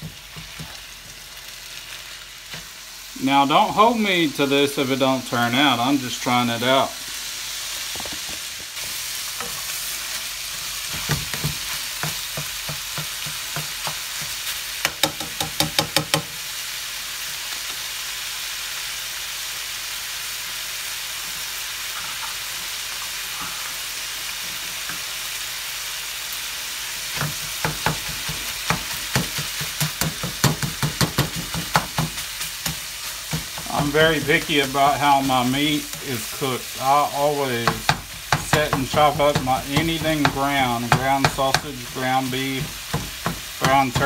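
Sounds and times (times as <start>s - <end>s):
meat sizzling in a skillet: 0.0s - 44.0s.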